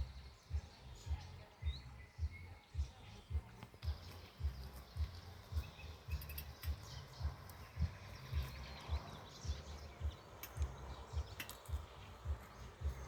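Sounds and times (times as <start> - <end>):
faint bird chirps: 0.0 - 13.0
low dull thuds: 0.0 - 13.0.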